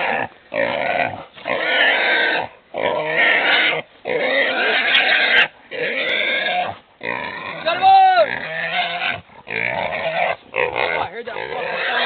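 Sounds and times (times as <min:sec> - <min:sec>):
wild boar squealing: 0:00.0 - 0:12.0.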